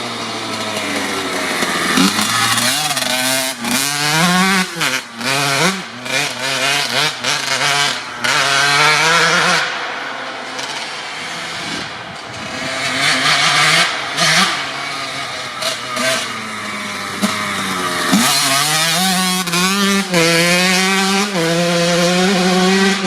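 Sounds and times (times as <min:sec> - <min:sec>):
two-stroke motorcycle engine revving: 0:00.0 - 0:23.0.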